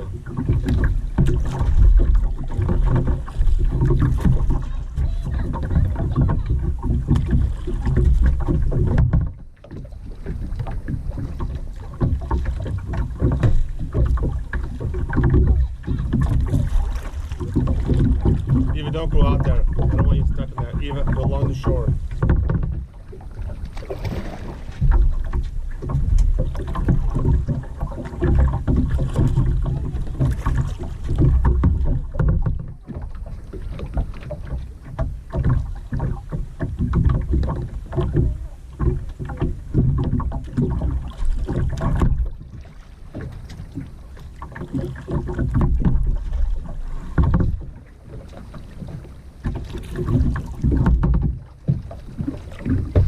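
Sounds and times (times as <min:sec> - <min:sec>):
low uneven rumble: 0:00.0 - 0:53.0
paddle splashing in water: 0:00.0 - 0:53.0.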